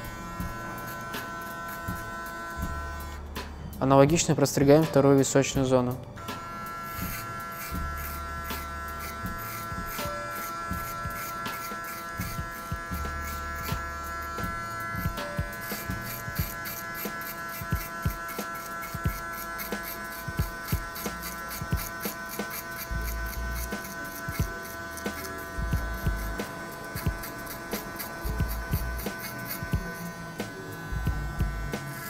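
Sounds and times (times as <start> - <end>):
electric hair clipper buzzing: 0.0 - 3.4, 6.2 - 32.0.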